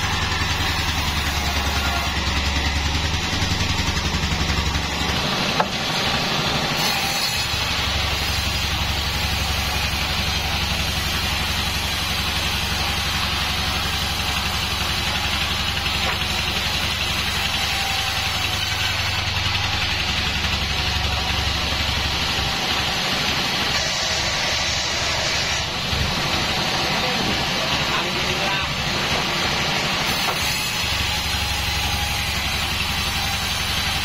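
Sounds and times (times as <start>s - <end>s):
band sawmill drone: 0.0s - 34.0s.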